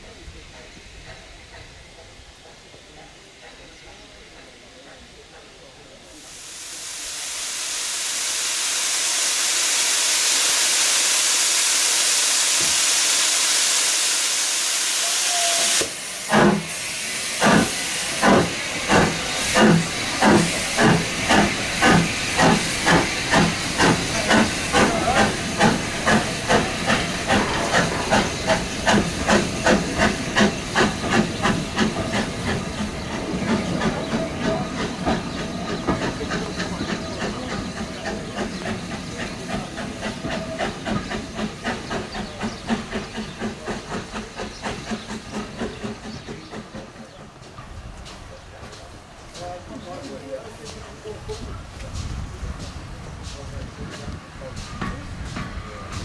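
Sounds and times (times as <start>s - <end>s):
steam hissing: 0.0s - 56.0s
steam locomotive exhaust beats: 0.0s - 56.0s.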